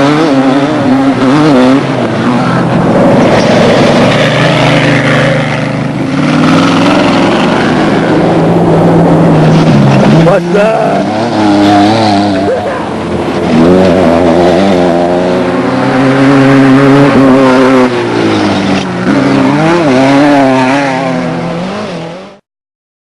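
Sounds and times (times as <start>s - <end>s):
race vehicle engine revving: 0.0s - 22.4s.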